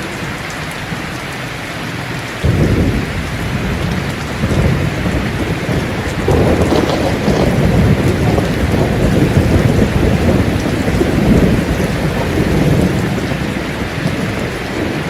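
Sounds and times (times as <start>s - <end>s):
heavy rain: 0.0s - 15.0s
low rolling thunder: 2.1s - 15.0s.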